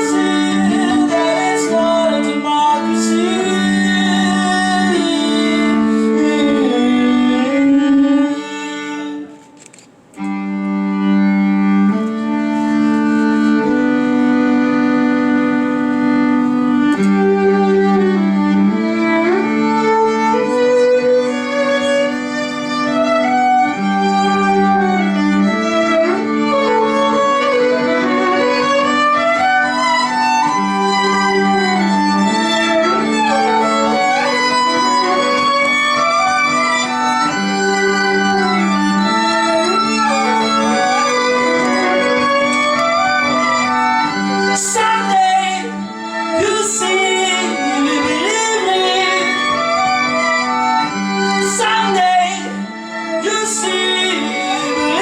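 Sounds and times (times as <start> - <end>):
live band music: 0.0 - 55.0
violin melody: 0.0 - 55.0.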